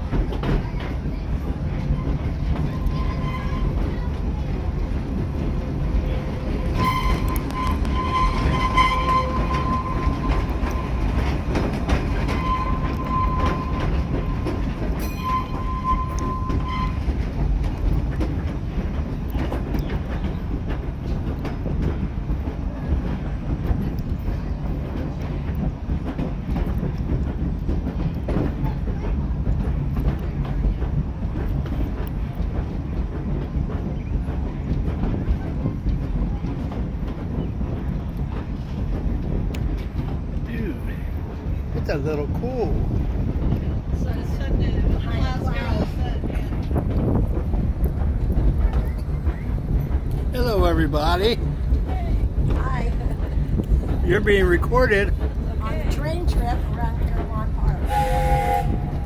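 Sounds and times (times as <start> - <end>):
train coach rumble and rail clatter: 0.0 - 59.0.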